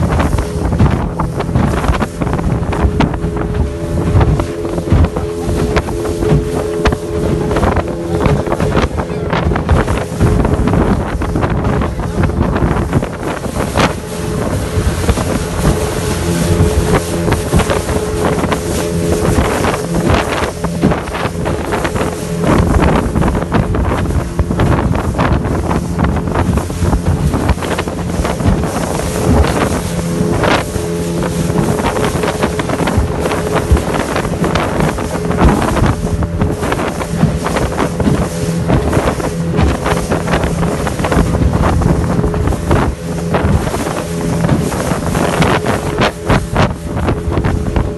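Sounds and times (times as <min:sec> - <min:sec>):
motorboat engine running: 0:00.0 - 0:47.9
water slapping against hull: 0:00.0 - 0:47.9
wind buffeting microphone: 0:00.0 - 0:47.9.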